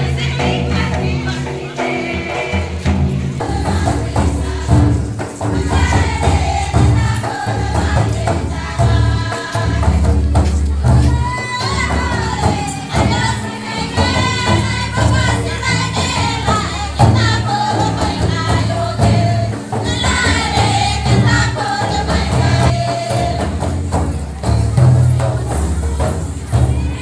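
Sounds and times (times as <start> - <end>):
group singing: 0.0 - 24.9
hand-played barrel drums: 0.0 - 27.0.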